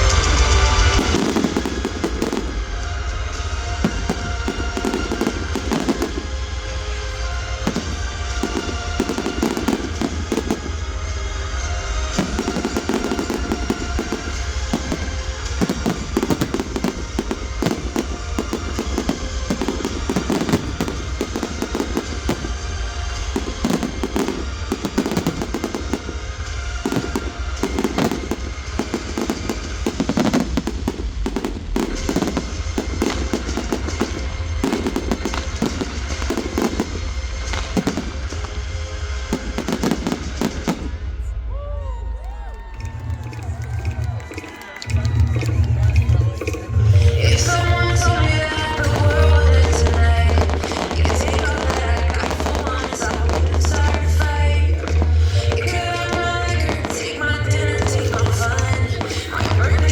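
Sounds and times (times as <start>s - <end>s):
fireworks bursting and crackling: 0.0s - 41.7s, 42.3s - 59.9s
music playing: 0.0s - 59.9s.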